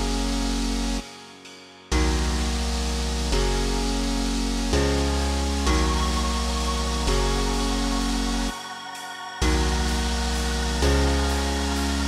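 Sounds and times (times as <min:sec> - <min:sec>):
deep bass line: 0:00.0 - 0:01.0, 0:01.9 - 0:08.6, 0:09.4 - 0:12.0.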